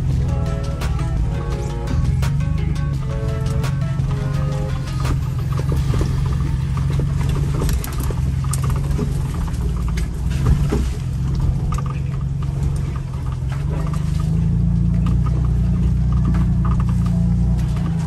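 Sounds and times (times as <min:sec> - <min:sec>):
vehicle engine and tyre rumble: 0:00.0 - 0:18.0.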